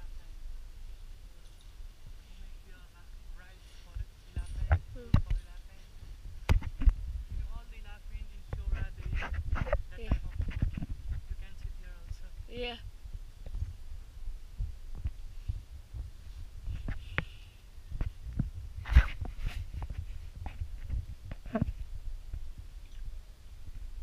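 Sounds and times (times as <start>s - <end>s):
wind buffeting microphone: 3.9s - 24.0s.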